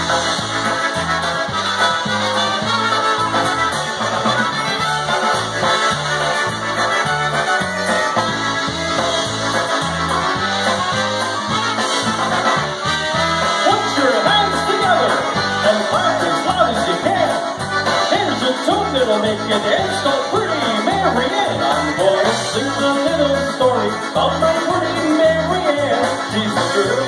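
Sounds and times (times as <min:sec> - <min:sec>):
polka band over speakers: 0:00.0 - 0:27.0.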